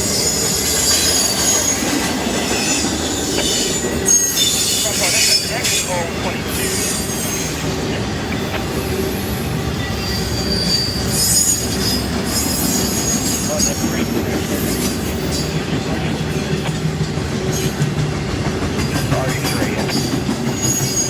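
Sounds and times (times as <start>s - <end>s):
steel wheels squealing on rails: 0.0s - 18.0s, 18.7s - 21.0s
freight train cars rumbling past: 0.0s - 21.0s.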